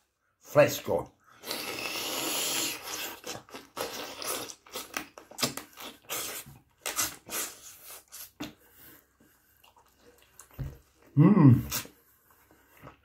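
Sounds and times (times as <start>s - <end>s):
person chewing and smacking: 1.4s - 13.0s.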